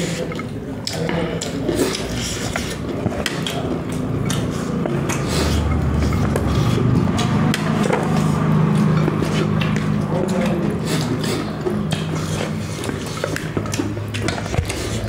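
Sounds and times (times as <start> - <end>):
chewing and crunching: 0.0 - 15.0.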